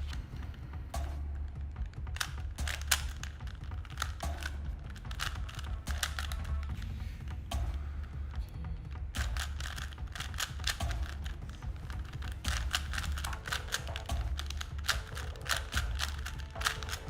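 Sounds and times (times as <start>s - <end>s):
puzzle cube clicking: 0.0s - 7.9s, 8.9s - 17.0s.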